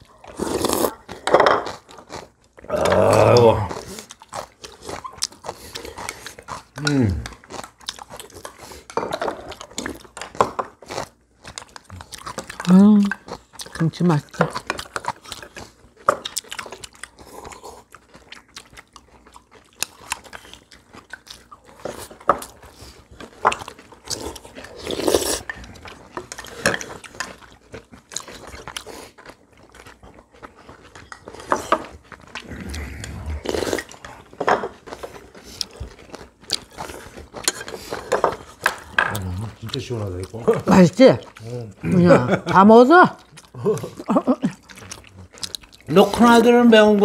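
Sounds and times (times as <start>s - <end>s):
people chewing and crunching: 0.0s - 47.0s.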